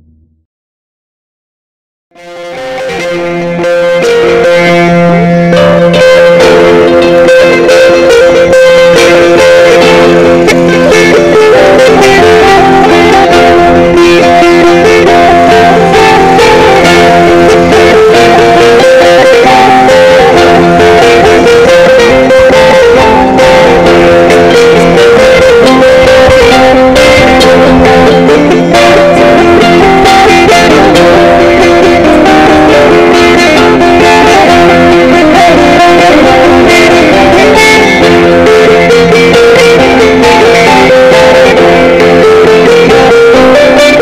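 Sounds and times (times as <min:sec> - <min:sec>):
plucked lute melody: 0:02.2 - 0:44.0.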